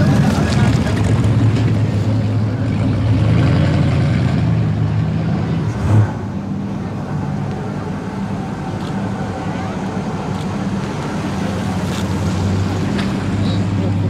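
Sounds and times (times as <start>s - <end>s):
car engines running at low speed: 0.0s - 14.0s.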